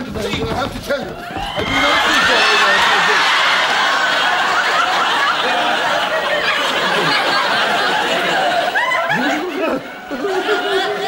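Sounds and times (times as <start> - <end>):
audience laughing: 1.9 - 11.0.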